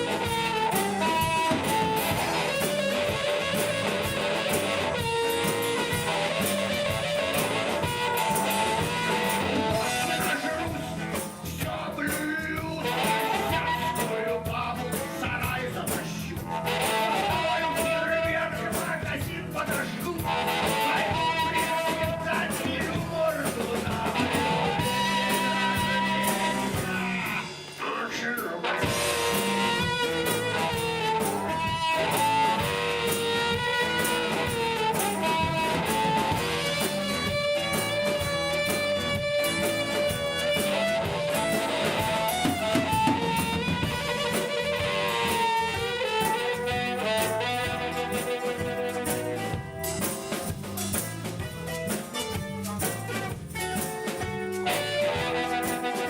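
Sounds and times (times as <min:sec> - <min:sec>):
bent lead melody: 0:00.0 - 0:27.8, 0:28.6 - 0:56.0
drum kit: 0:00.0 - 0:56.0
guitar: 0:00.0 - 0:56.0
live band music: 0:00.0 - 0:56.0.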